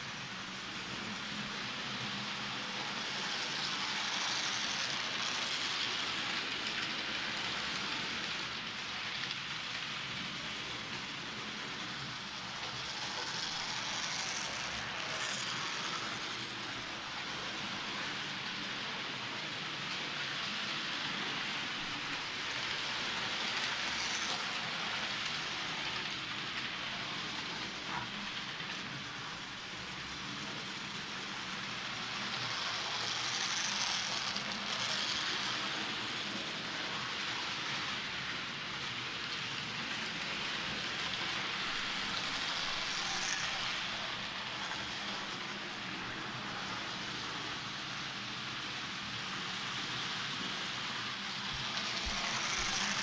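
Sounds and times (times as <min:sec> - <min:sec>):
model trains whirring and rattling: 0:00.0 - 0:53.0.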